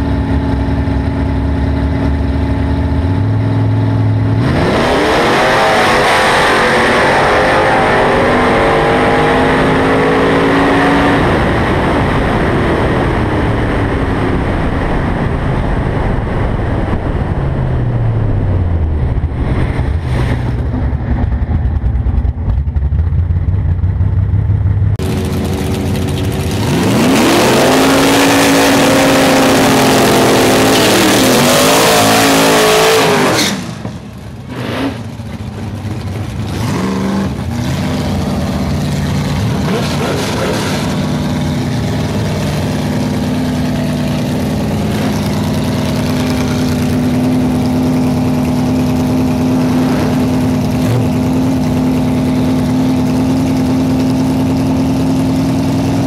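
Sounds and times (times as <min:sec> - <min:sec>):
car engine revving and idling: 0:00.0 - 0:56.0.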